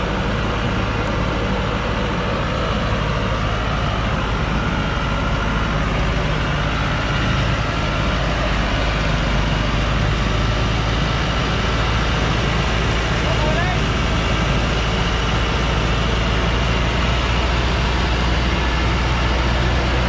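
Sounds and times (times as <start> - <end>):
truck engine under load: 0.0 - 20.0.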